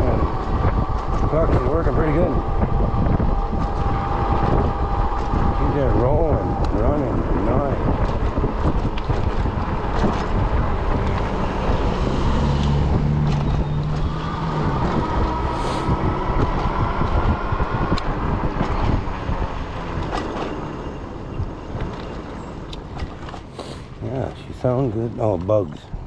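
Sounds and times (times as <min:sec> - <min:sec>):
electric bike whine: 0:00.0 - 0:24.0
tires rumbling on pavement: 0:00.0 - 0:26.0
wind buffeting microphone: 0:00.0 - 0:26.0.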